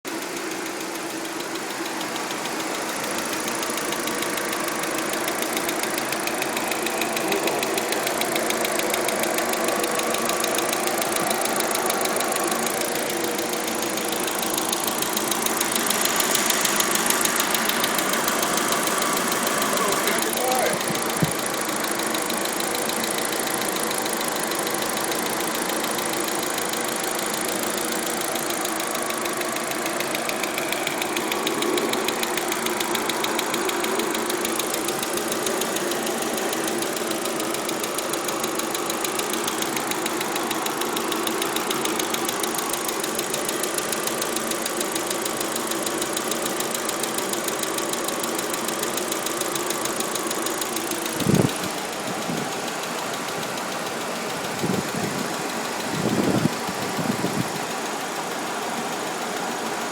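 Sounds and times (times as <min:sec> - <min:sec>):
car engine running: 0:00.0 - 0:59.9
fast even ticking: 0:00.0 - 0:59.9.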